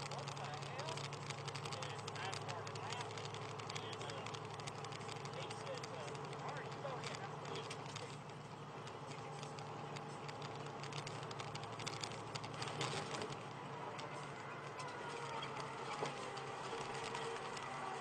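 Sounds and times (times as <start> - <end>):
engine and road drone: 0.0 - 18.0
small ticks and rattles: 0.0 - 18.0.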